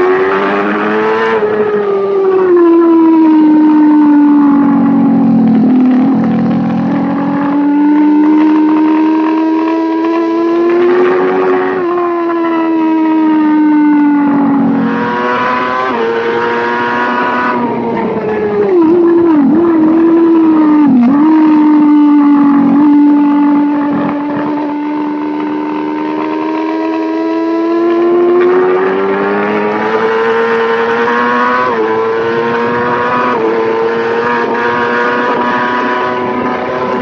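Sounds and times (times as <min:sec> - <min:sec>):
race motorcycle engine revving: 0:00.0 - 0:37.0.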